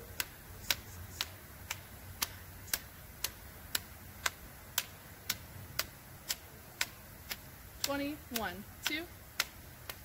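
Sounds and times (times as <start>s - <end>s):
metronome clicking: 0.1s - 10.0s.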